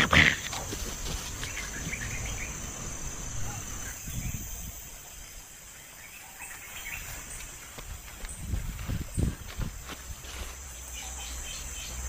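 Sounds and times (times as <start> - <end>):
insects trilling: 0.0 - 12.0
rustling through undergrowth: 0.0 - 12.0.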